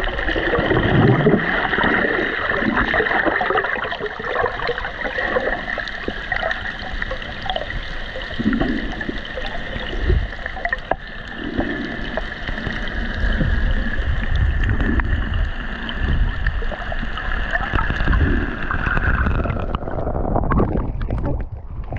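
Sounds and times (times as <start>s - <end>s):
underwater water rushing: 0.0s - 21.9s.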